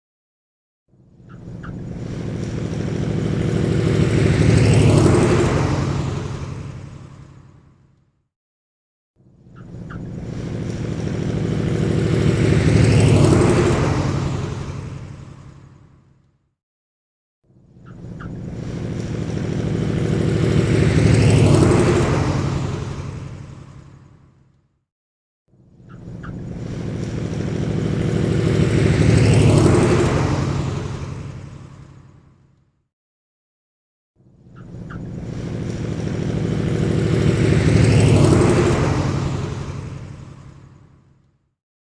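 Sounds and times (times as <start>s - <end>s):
propeller engine passing by: 1.0s - 8.0s, 9.2s - 16.2s, 17.6s - 24.5s, 25.8s - 32.6s, 34.4s - 41.2s.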